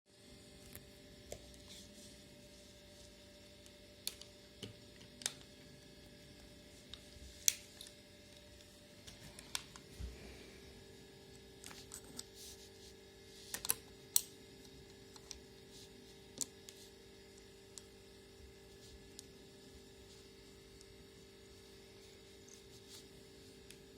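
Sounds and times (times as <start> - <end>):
faint mains hum: 0.1 - 23.9.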